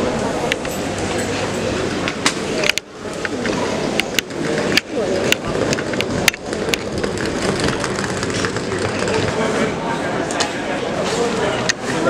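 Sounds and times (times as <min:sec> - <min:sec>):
murmur of distant voices: 0:00.0 - 0:12.0.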